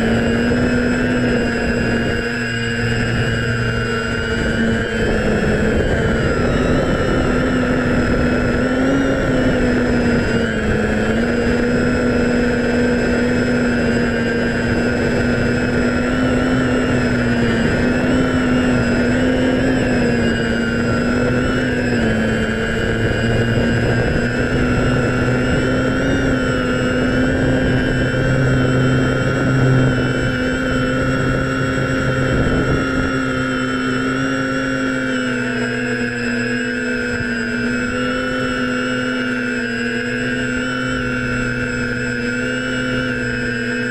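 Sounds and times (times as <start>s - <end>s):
drone motors buzzing whine: 0.0s - 43.9s.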